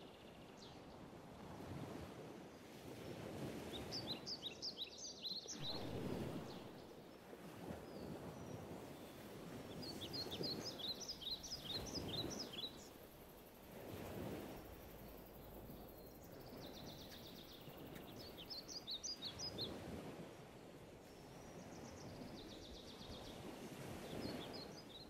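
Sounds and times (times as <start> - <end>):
songbird chirping: 3.6 - 25.0.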